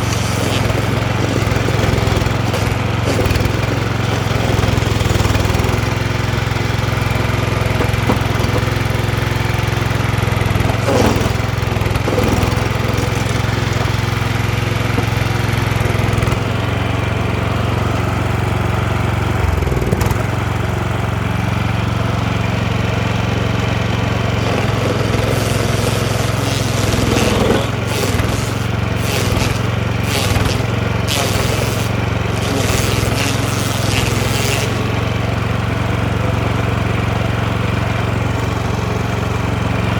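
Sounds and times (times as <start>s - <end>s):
cutting wheel grinding stump: 0.0s - 18.4s, 23.8s - 39.9s
stump grinder engine running: 0.0s - 39.9s.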